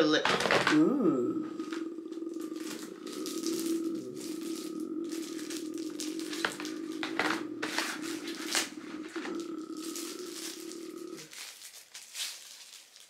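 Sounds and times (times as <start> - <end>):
steady low hum: 0.4 - 11.4
plastic packaging crinkling: 1.5 - 13.0.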